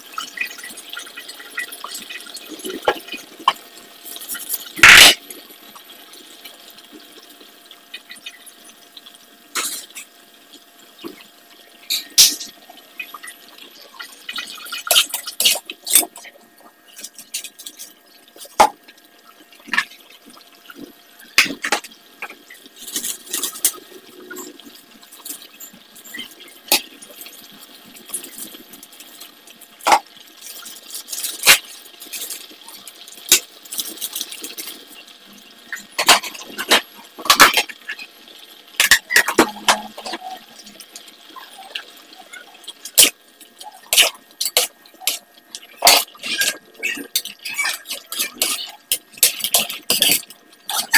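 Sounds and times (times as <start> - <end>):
liquid bubbling in a wok: 0.0 - 50.9.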